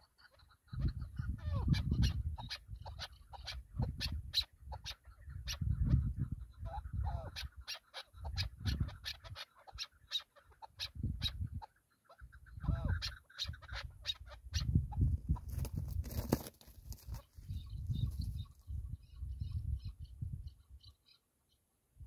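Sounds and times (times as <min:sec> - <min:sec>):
longer wavering bird calls: 0:00.0 - 0:14.8, 0:17.2 - 0:21.7.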